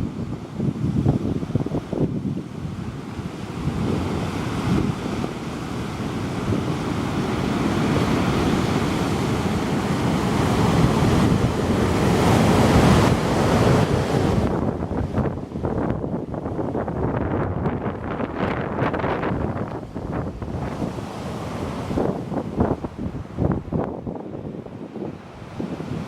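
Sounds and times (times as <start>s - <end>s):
storm surf washing ashore: 0.0s - 26.0s
wind buffeting microphone: 0.0s - 26.0s.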